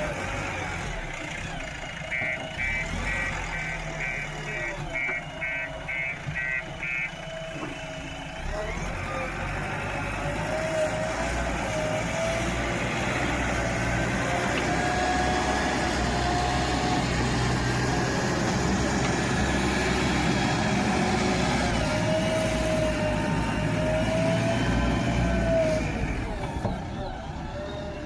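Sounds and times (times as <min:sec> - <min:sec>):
heavy diesel engine rumbling: 0:00.0 - 0:28.0.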